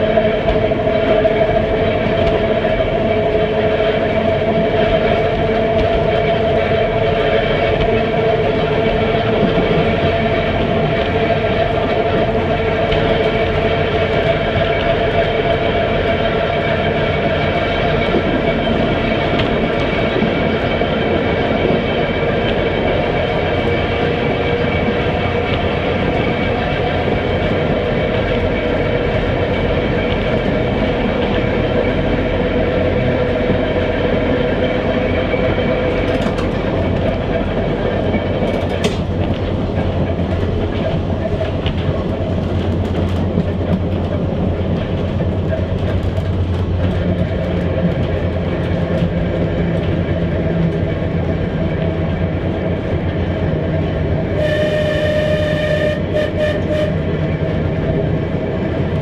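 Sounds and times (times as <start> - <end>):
tram wheels clattering on rails: 0.0 - 59.0.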